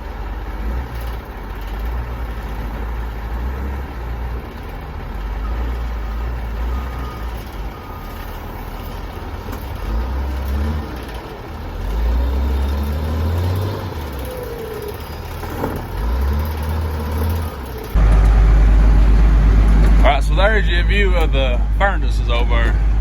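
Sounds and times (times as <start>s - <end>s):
vehicle engine and road rumble: 0.0s - 23.0s.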